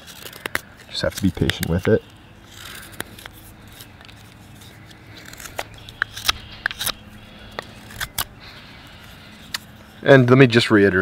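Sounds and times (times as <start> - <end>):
knife whittling wood: 0.0 - 9.7.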